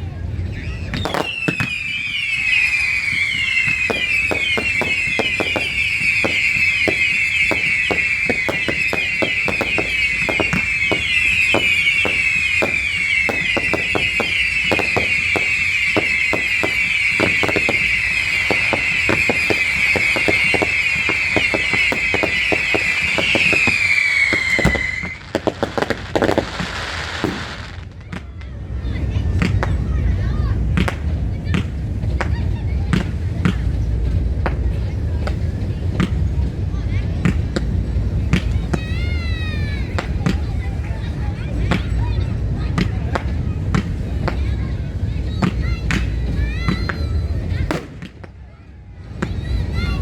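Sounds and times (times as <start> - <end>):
fireworks bangs and crackles: 0.0 - 50.0
whistling fireworks screeching: 0.0 - 50.0.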